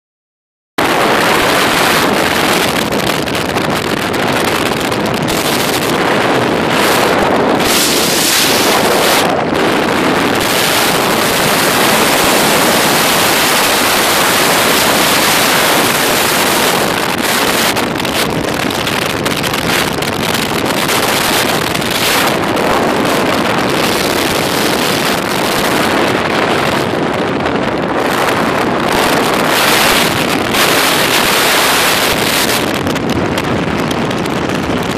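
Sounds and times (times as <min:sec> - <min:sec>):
car road noise on highway: 0:00.8 - 0:34.9
wind buffeting microphone: 0:00.8 - 0:34.9.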